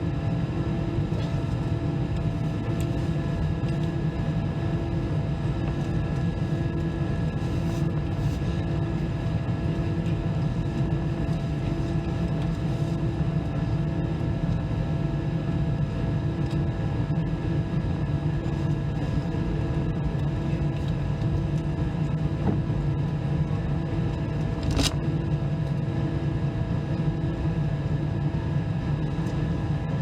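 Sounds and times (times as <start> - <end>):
jet engine cabin hum: 0.0 - 30.0.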